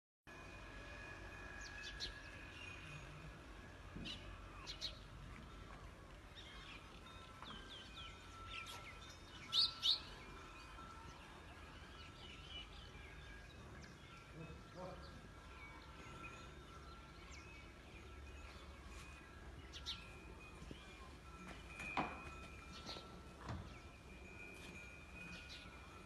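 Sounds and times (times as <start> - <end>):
birds chirping: 3.9 - 26.0.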